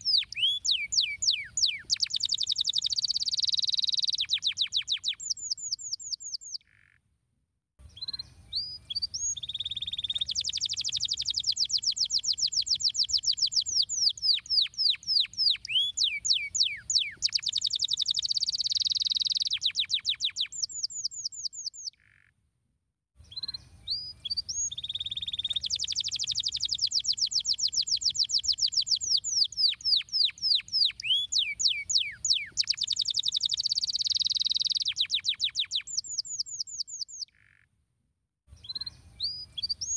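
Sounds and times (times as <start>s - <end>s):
canary singing: 0.0s - 6.7s, 8.0s - 21.9s, 23.3s - 37.6s.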